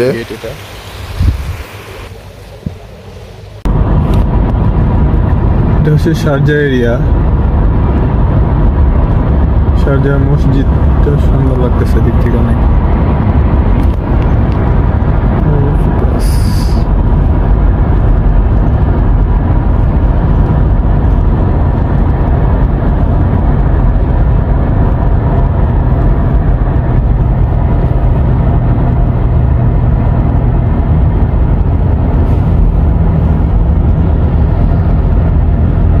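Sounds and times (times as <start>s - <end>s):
engine hum: 0.0s - 36.0s
tyres rumbling on road: 0.0s - 36.0s.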